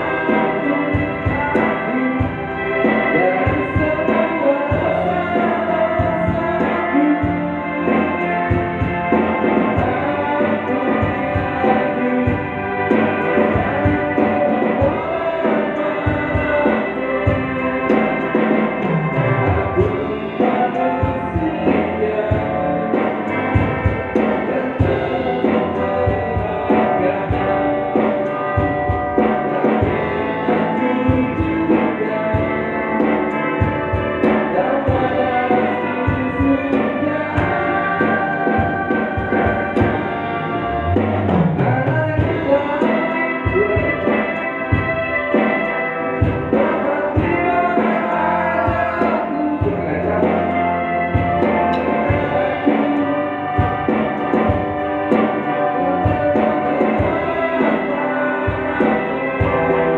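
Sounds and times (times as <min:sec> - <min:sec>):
drums: 0:00.0 - 0:59.9
electric bass guitar: 0:00.0 - 0:59.9
live band playing: 0:00.0 - 0:59.9
person singing: 0:00.0 - 0:59.9.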